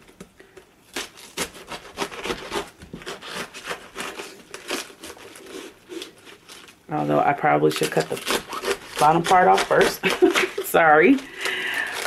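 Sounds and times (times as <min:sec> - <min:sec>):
knife cutting crisp cabbage: 0:00.9 - 0:12.0.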